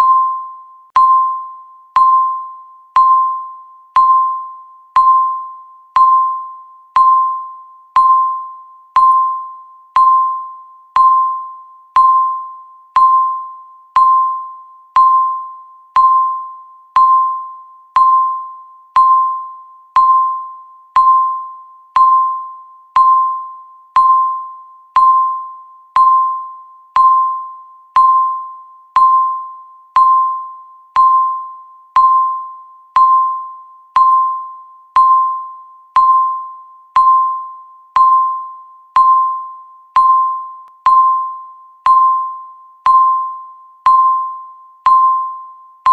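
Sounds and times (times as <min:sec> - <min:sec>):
electronic timer beeps: 0:00.0 - 0:45.9.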